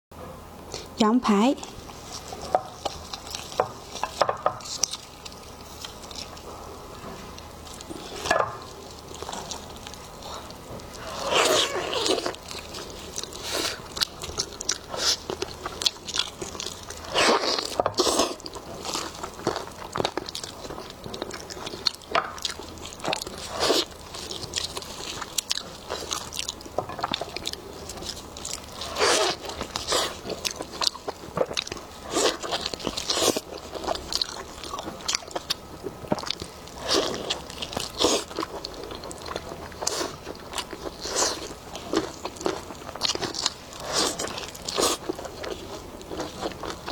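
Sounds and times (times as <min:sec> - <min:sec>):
wet chewing and crunching: 0:01.6 - 0:46.9.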